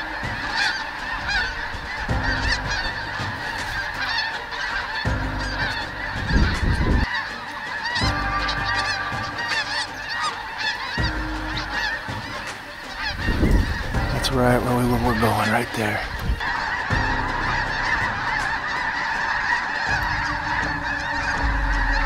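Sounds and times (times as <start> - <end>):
geese honking in flight: 0.0 - 22.0.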